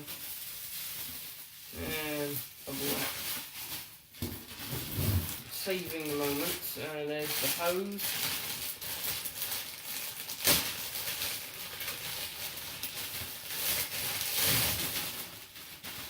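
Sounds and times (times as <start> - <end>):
packing paper and bubble wrap crinkling: 0.0 - 16.0.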